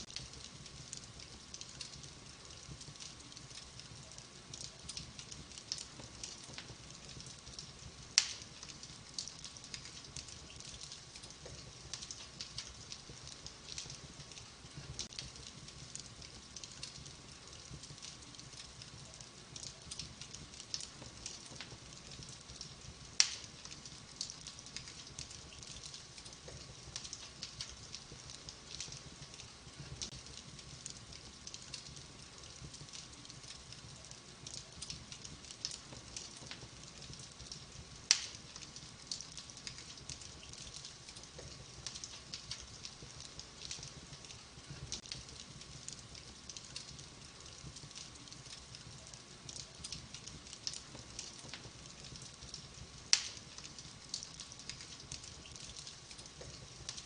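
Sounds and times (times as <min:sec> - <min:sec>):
sharp fire pops: 0:00.0 - 0:57.0
wood fire crackling: 0:00.0 - 0:57.0.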